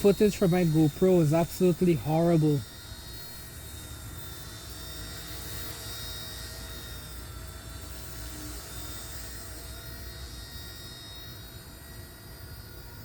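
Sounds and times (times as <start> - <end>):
rc helicopter whining: 0.0 - 13.0.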